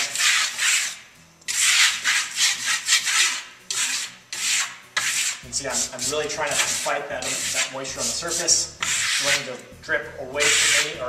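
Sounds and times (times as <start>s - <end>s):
trowel scraping wet clay: 0.0s - 11.0s.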